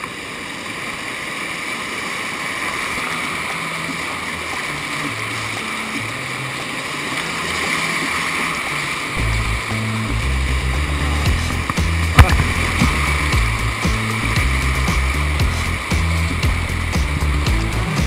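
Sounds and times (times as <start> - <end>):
whitewater rushing and splashing: 0.0 - 18.0.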